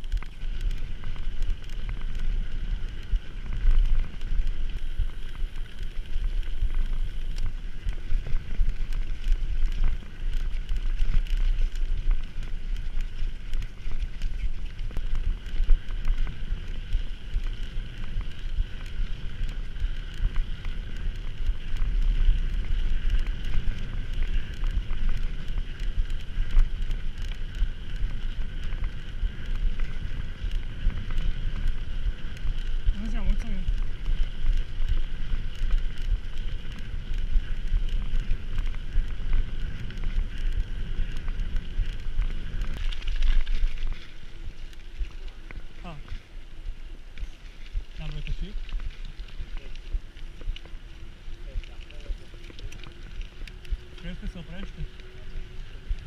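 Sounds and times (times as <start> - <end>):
bike clicks and rattles: 0.0 - 56.0
wind buffeting microphone: 0.0 - 56.0.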